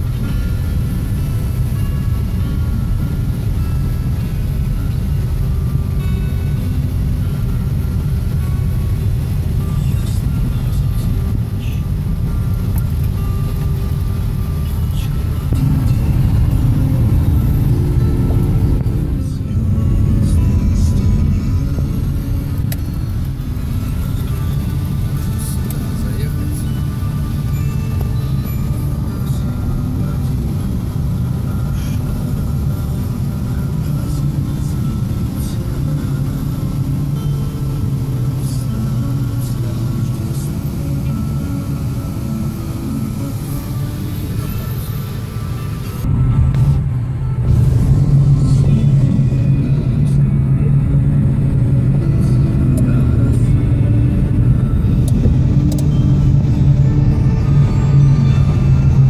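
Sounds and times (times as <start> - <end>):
car engine and tyres rumbling: 0.0 - 59.0
music playing: 0.0 - 59.0.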